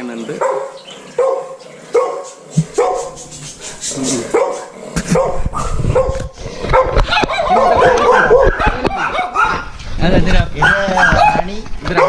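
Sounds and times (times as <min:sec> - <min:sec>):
dogs barking and yapping: 0:00.3 - 0:09.8, 0:10.5 - 0:12.0.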